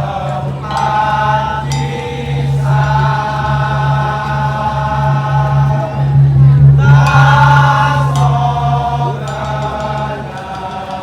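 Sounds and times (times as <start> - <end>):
ensemble melody with long held notes: 0.0 - 11.0
low drone: 0.0 - 11.0.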